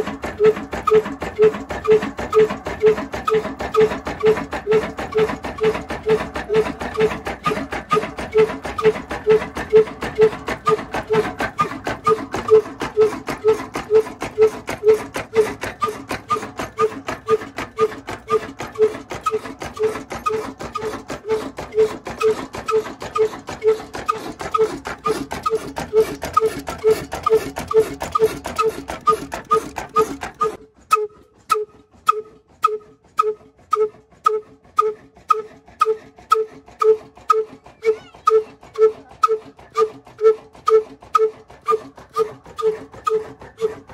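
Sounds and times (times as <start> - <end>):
hollow exhaust puffs: 0.0 - 43.9
oil engine running: 0.0 - 43.9.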